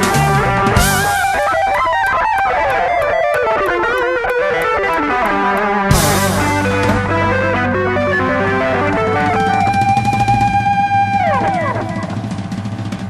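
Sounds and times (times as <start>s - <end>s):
electric guitar lead line: 0.0s - 13.0s
low backing part: 0.0s - 13.0s.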